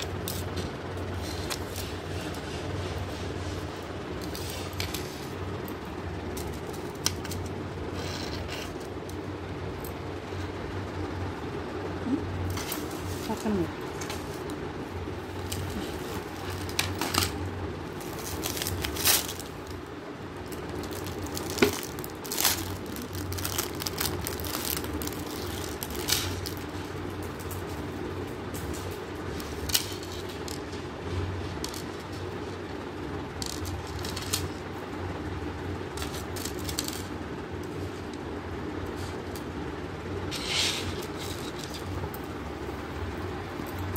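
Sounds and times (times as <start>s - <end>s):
wrapping rustling and crinkling: 0.0s - 9.3s, 12.5s - 34.9s, 35.8s - 39.6s, 40.2s - 42.4s
steady low hum: 0.0s - 43.9s.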